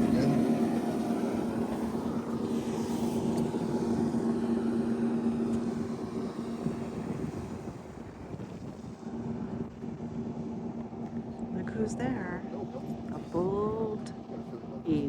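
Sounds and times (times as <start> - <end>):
motor engine humming: 0.0 - 15.0.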